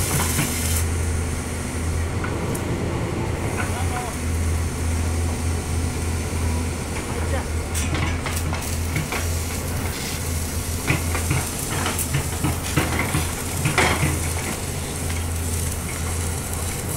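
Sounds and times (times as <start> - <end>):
excavator diesel engine idling: 0.0 - 16.9.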